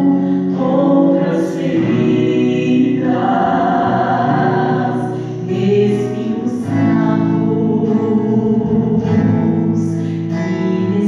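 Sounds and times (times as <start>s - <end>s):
acoustic guitar: 0.0s - 11.0s
woman singing gospel song: 0.0s - 11.0s.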